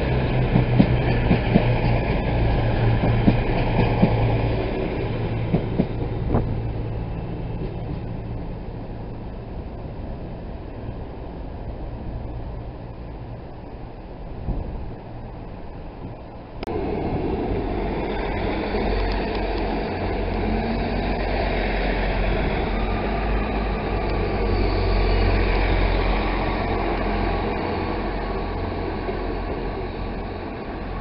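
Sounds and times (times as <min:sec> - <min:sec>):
diesel train engines humming: 0:00.0 - 0:31.0
wheels rumbling on rails: 0:00.0 - 0:31.0.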